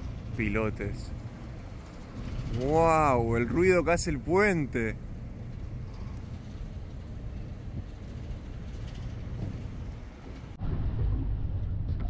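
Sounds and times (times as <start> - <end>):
traffic rumble on bridge: 0.0 - 12.0.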